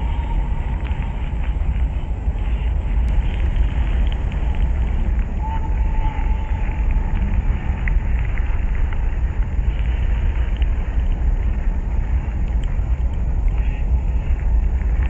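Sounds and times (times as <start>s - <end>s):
faint crackling ticks: 0.0s - 15.0s
steady low rumble: 0.0s - 15.0s.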